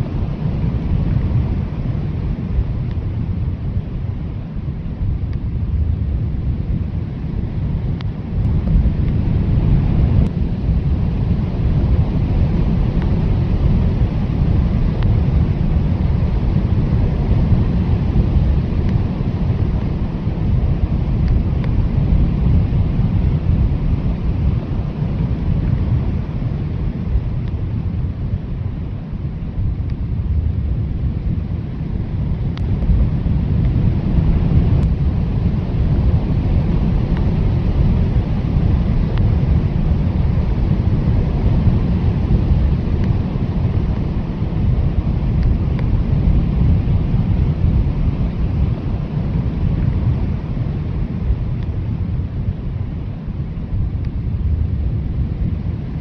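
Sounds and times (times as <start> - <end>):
strong blizzard wind: 0.0 - 56.0.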